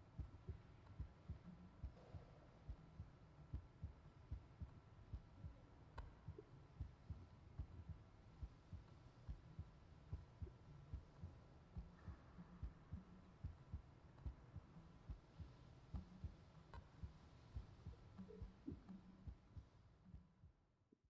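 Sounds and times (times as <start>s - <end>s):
quiet hum: 0.0s - 21.0s
heartbeat thuds: 0.2s - 20.6s.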